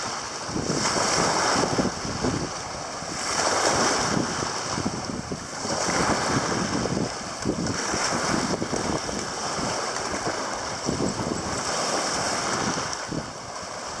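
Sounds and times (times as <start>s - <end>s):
small waves washing on shore: 0.0s - 14.0s
wind rumbling on microphone: 0.0s - 14.0s.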